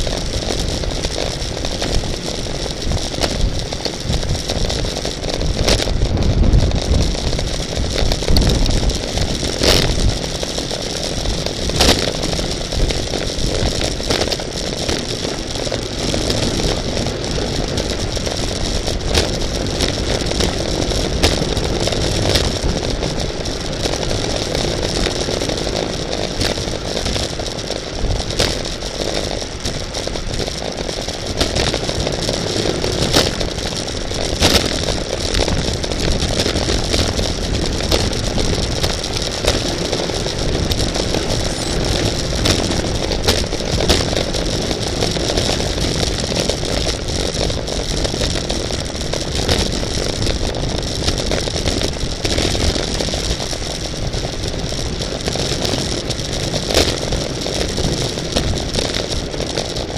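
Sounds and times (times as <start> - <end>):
bicycle rattling and clicking: 0.0 - 59.9
wind rushing over microphone: 0.0 - 59.9.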